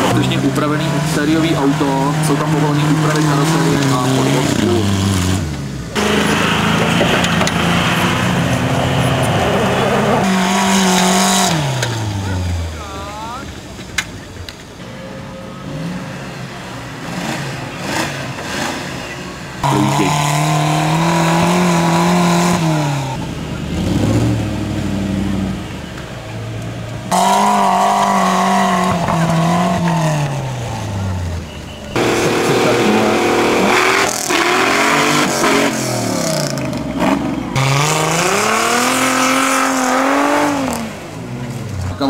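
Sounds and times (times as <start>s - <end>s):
off-road engines revving: 0.0s - 42.0s.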